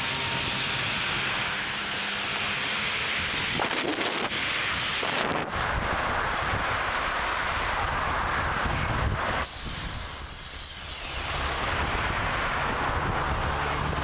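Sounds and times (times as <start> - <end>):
wind rushing over microphone: 2.4 - 14.0.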